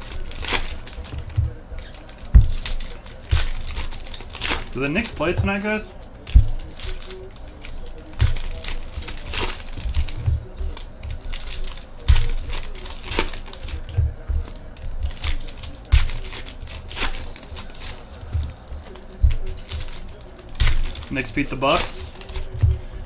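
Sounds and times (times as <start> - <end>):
foil wrappers crinkling and tearing: 0.0 - 23.0.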